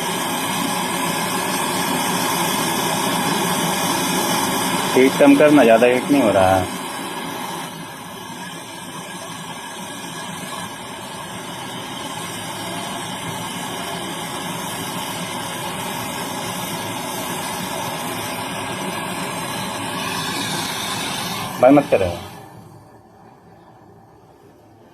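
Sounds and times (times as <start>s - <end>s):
torch flame roaring hiss: 0.0s - 24.9s.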